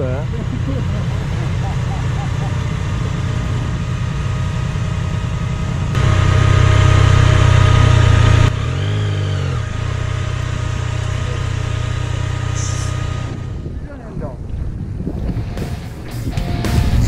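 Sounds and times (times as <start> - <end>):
motorcycle engine idling: 0.0 - 13.8.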